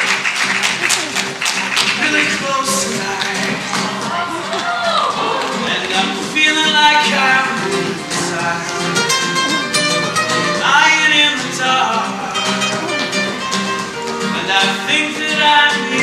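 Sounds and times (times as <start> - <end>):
nylon-string guitar: 0.0 - 16.0
rhythmic hand clapping: 0.0 - 16.0
man singing: 1.9 - 4.1, 5.1 - 16.0.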